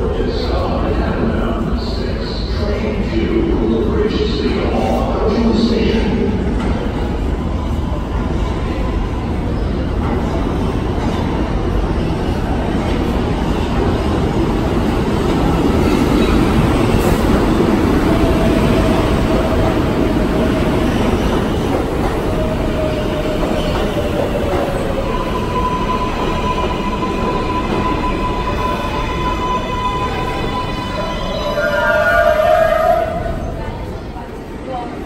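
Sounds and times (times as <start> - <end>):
subway train rumbling on rails: 0.0 - 35.0.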